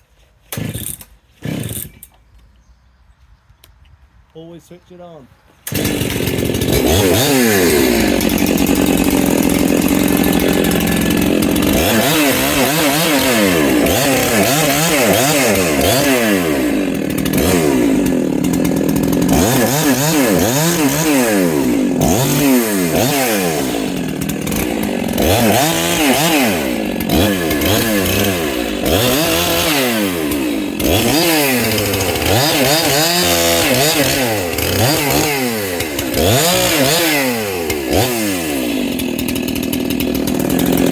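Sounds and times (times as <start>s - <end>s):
chainsaw cutting wood: 0.0s - 2.3s, 5.6s - 40.9s.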